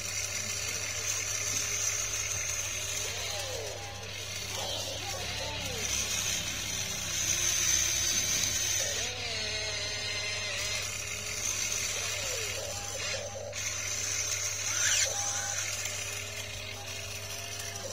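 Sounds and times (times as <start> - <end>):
small electric motors whining: 0.0 - 17.9.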